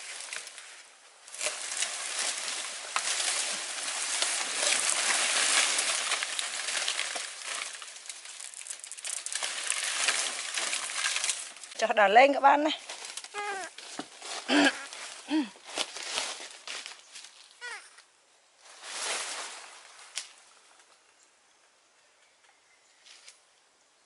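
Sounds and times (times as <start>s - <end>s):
dry leaves rustling and crackling: 0.0s - 17.8s, 18.6s - 20.6s.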